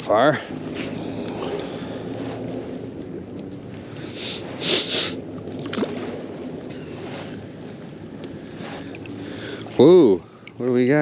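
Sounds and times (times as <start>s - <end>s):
river water lapping: 0.0s - 11.0s
wind: 0.0s - 11.0s.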